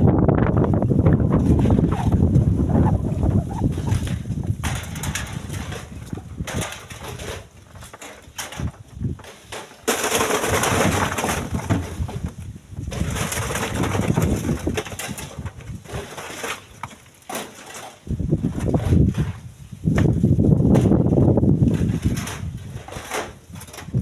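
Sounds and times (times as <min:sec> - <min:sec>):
rattling noise: 0:00.0 - 0:19.4, 0:20.0 - 0:24.0
stones clattering and scraping: 0:01.0 - 0:24.0.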